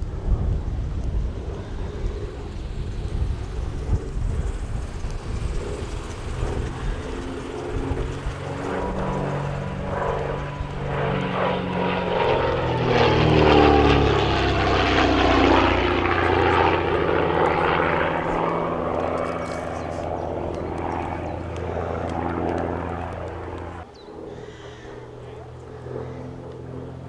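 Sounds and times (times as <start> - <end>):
piston aircraft engines passing: 0.0 - 27.0.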